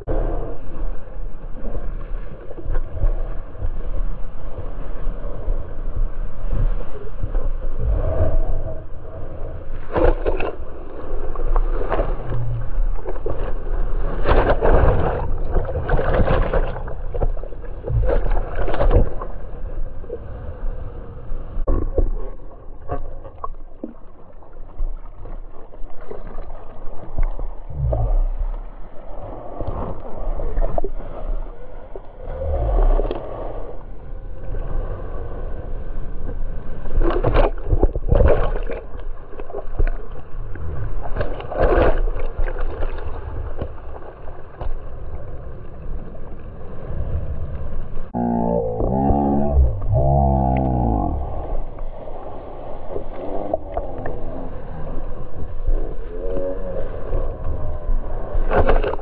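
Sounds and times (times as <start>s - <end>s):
muffled waves splashing over camera: 0.0s - 59.0s.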